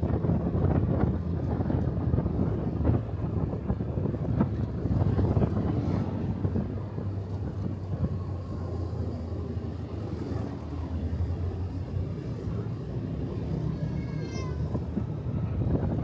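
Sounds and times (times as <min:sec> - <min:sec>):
road noise: 0:00.0 - 0:16.0
wind noise: 0:00.0 - 0:16.0.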